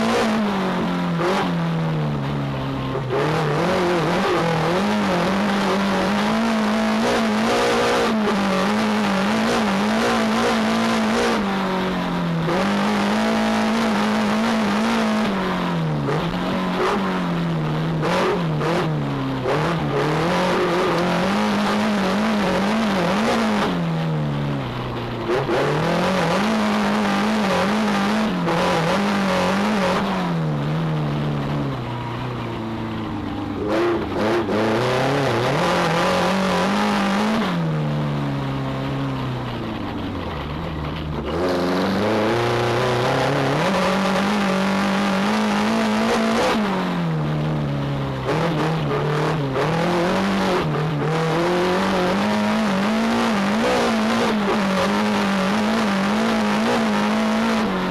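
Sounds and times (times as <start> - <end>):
racing car engine running hard: 0.0 - 57.9
road and wind noise: 0.0 - 57.9.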